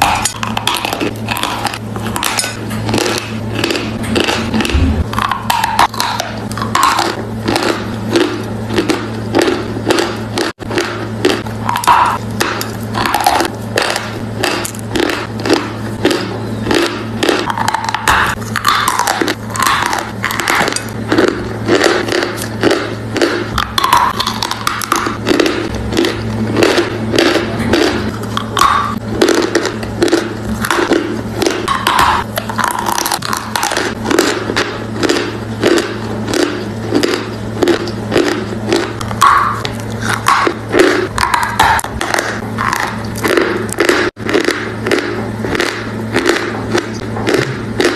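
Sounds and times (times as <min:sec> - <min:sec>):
chalk crunching being chewed: 0:00.0 - 0:47.9
steady low hum: 0:00.0 - 0:47.9.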